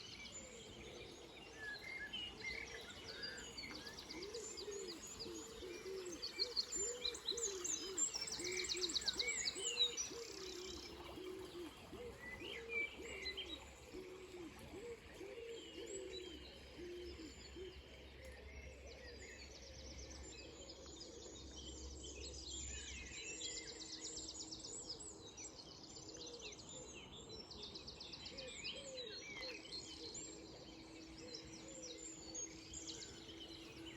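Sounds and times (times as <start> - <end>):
songbirds singing: 0.0 - 33.9.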